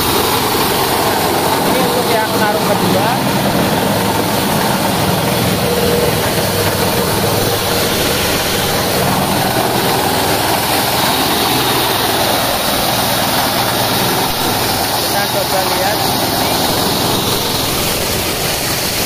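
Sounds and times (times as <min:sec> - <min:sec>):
small engine running under load: 0:00.0 - 0:19.0
thresher drum and fans whirring: 0:00.0 - 0:19.0.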